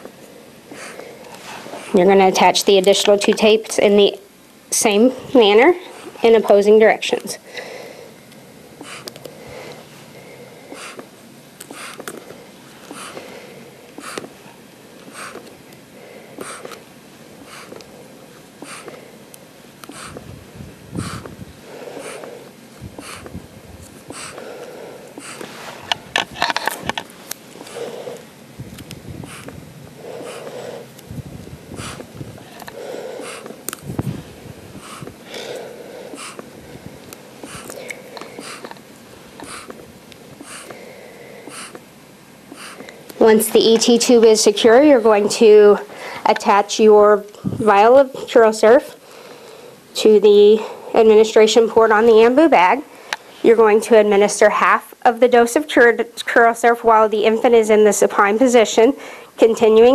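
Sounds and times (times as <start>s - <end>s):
hissing air puffs: 0.0s - 4.1s, 4.9s - 53.7s.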